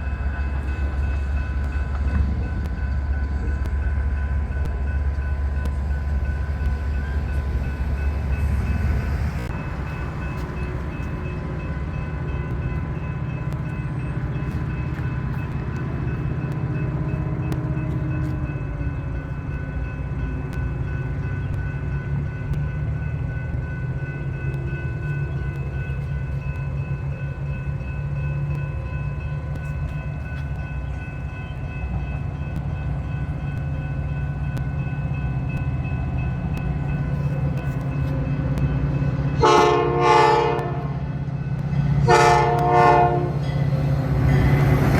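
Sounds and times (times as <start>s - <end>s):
diesel train rumbling: 0.0s - 44.9s.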